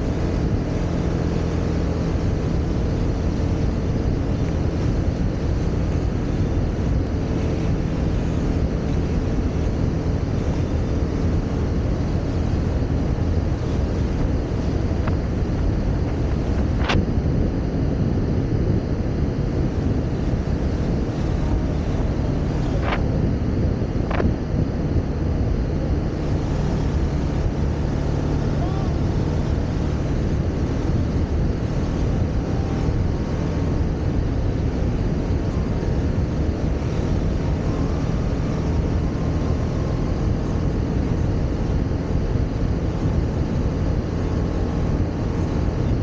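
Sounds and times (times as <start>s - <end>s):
motorcycle engine running: 0.0s - 46.0s
wind noise on microphone: 0.0s - 46.0s.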